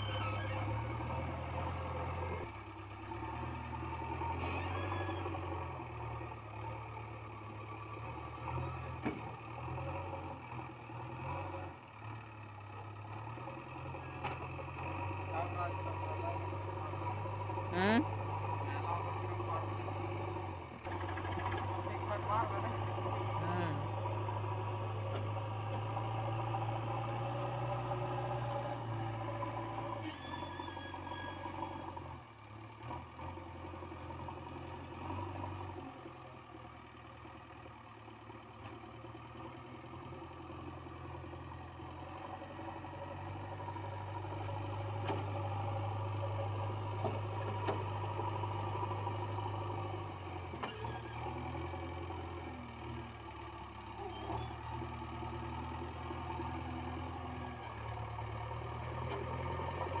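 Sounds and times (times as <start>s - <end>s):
diesel engine under load: 0.0s - 60.0s.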